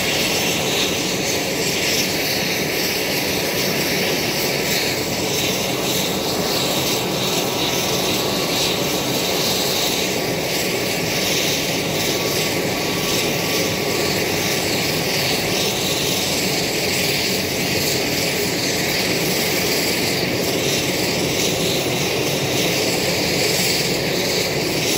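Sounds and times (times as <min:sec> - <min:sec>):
turboprop engines roaring: 0:00.0 - 0:24.9.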